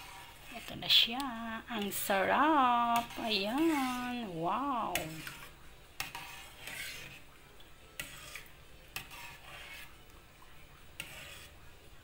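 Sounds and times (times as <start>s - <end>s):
metal ladle stirring and scraping: 0.0s - 12.0s.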